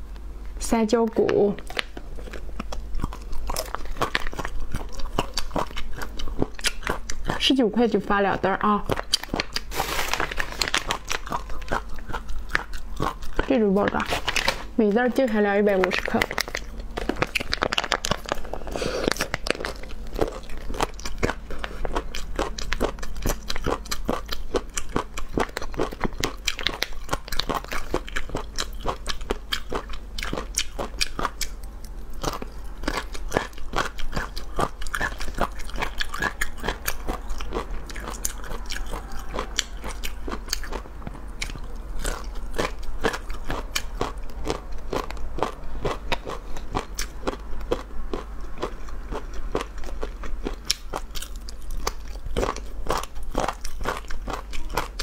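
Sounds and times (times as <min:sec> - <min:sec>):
chewing crunchy snacks: 0:01.2 - 0:55.0.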